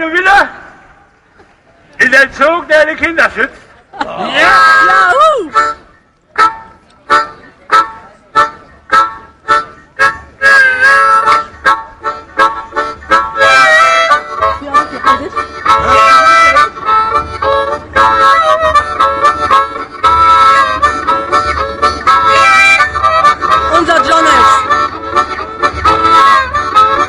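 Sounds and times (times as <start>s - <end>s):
harmonica chugging chords: 4.4s - 27.0s.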